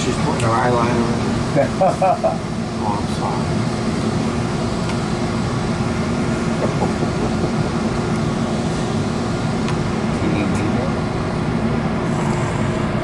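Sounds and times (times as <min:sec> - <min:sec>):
train rumble inside coach: 0:00.0 - 0:13.0.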